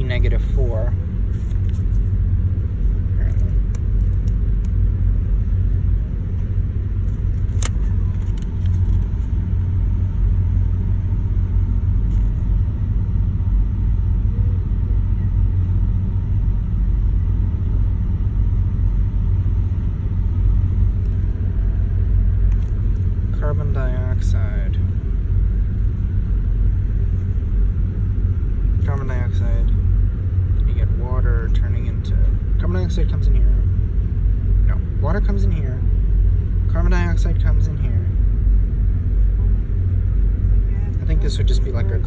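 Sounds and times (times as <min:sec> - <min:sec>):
low rumble inside car: 0:00.0 - 0:42.0.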